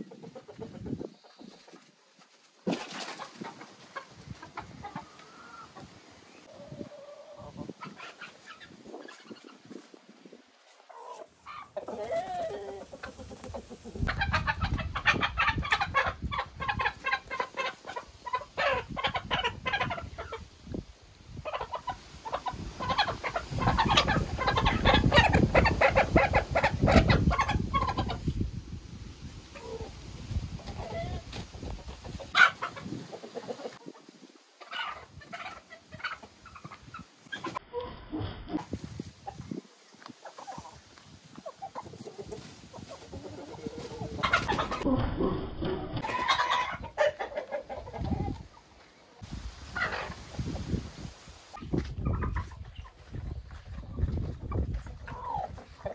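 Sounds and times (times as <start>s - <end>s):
chickens clucking and squawking: 0.0s - 55.9s.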